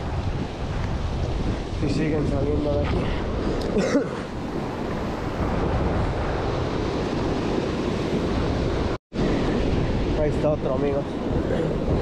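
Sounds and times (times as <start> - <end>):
surf washing: 0.0 - 12.0
wind noise on microphone: 0.0 - 12.0.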